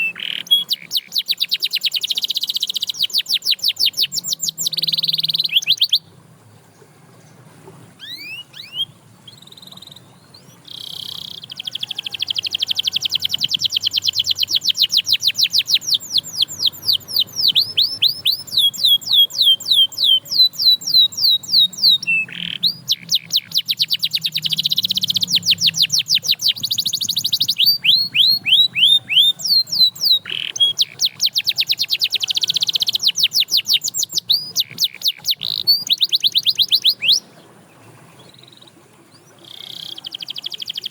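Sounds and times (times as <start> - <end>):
canary singing trills: 0.0 - 7.4, 8.0 - 40.9.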